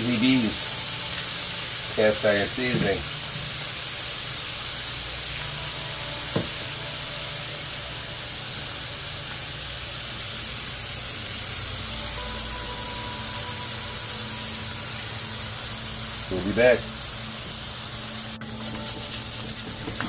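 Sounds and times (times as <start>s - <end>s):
patties sizzling in a pan: 0.0s - 20.0s.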